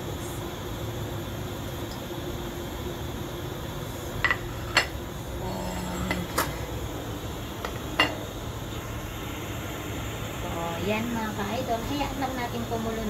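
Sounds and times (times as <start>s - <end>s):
low background rush: 0.0s - 13.0s.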